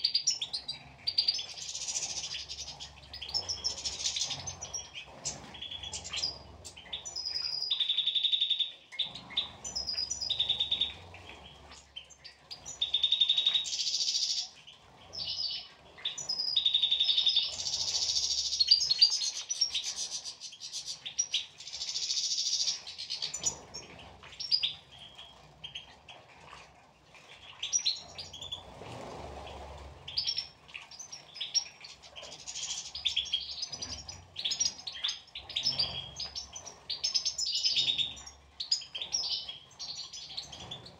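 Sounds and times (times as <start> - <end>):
finches twittering and singing: 0.0 - 26.2, 27.4 - 28.6, 30.1 - 40.9.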